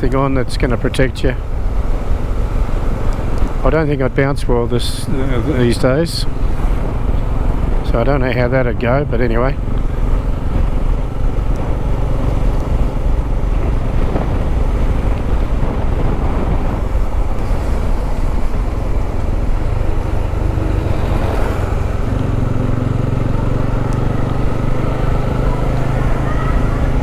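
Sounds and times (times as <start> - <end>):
motorcycle engine running: 0.0 - 27.0
wind rushing on microphone: 0.0 - 27.0.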